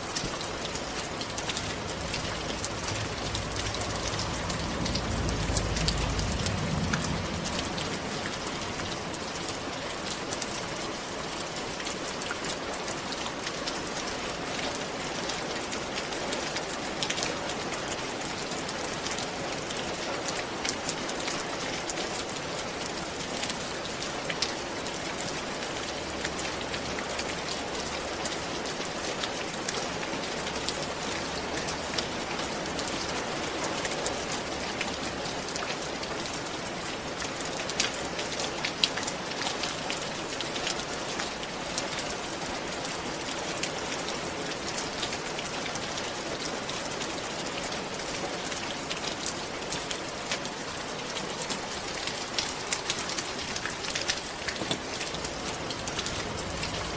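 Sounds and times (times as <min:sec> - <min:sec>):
rain falling on a roof: 0:00.0 - 0:56.9.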